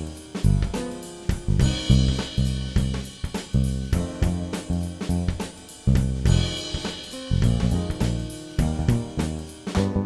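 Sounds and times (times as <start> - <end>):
low bass line: 0.0 - 0.8, 1.4 - 10.0
drum kit beat: 0.0 - 10.0.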